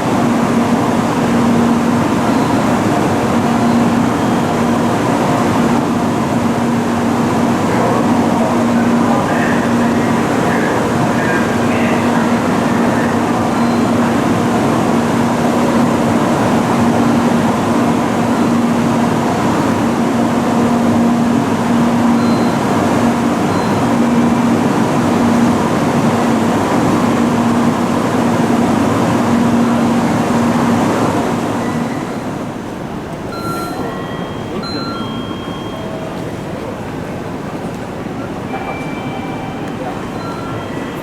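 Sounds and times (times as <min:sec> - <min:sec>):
train cabin rushing roar: 0:00.0 - 0:41.0.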